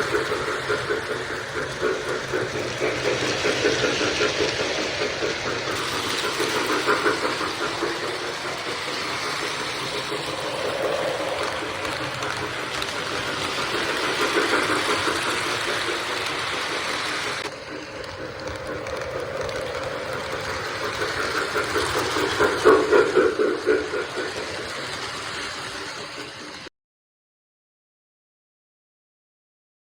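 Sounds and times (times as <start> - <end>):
freight train rolling past: 0.0 - 26.7.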